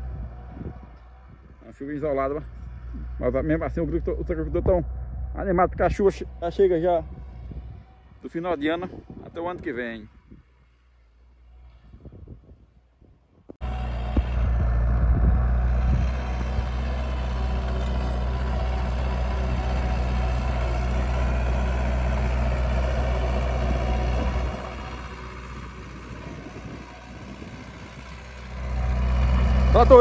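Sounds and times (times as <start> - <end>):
tractor diesel engine running: 0.0 - 11.8, 13.6 - 30.0.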